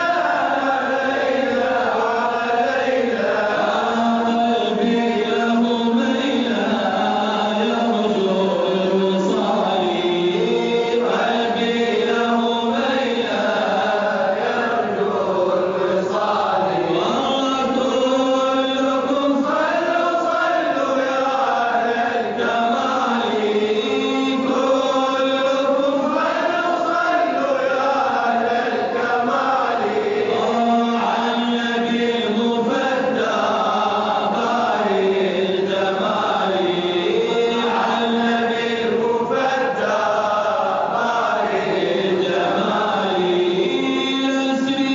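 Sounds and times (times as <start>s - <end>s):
man chanting devotional song: 0.0s - 44.9s.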